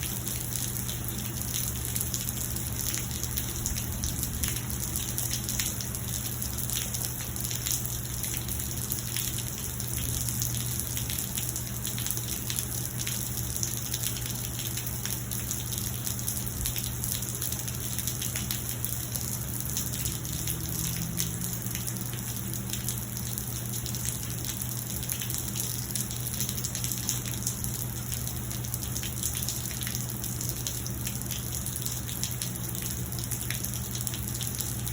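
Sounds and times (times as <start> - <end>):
rain falling: 0.0 - 34.9.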